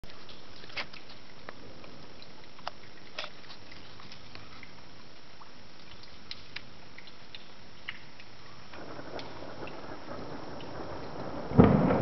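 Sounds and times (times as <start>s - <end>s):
sharp drips ticking: 0.0s - 12.0s
steady rain: 0.0s - 12.0s.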